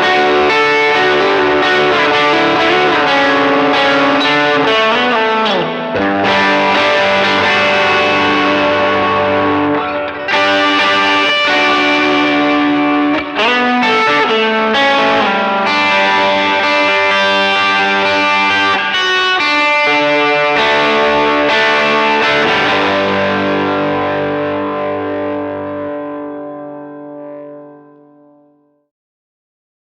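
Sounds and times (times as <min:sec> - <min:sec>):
overdriven electric guitar chords: 0:00.0 - 0:28.9.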